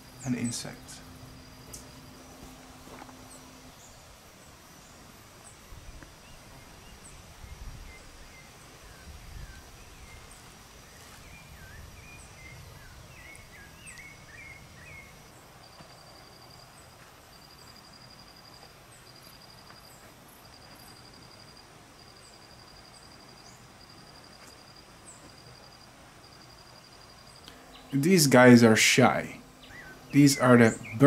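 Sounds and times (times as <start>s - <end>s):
insect pulsed trill: 0.0s - 7.2s, 11.2s - 31.0s
small birds chirping: 0.0s - 31.0s
steady high insect tone: 0.0s - 31.0s.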